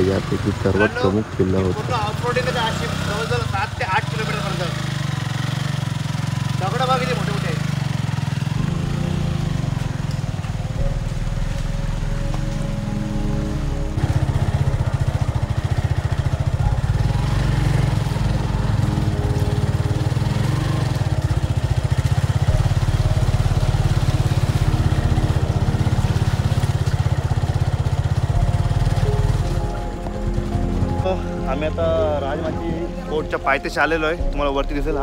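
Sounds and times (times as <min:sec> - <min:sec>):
motorcycle engine running under load: 0:00.0 - 0:35.0.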